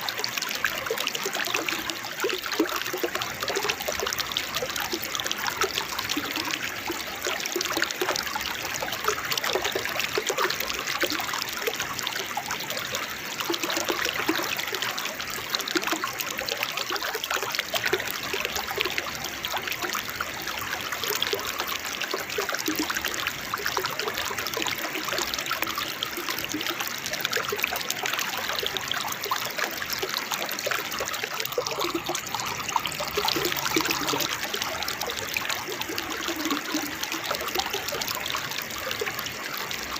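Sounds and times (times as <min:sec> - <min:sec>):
fast-flowing water trickling: 0:00.0 - 0:39.9
small waterfall splashing: 0:00.0 - 0:39.9.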